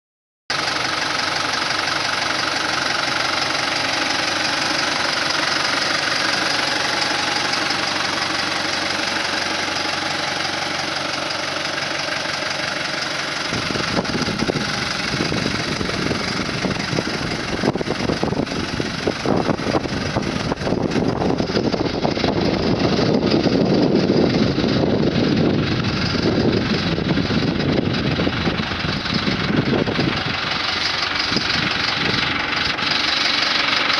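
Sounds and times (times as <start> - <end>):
tractor diesel engine idling: 0.5 - 33.9.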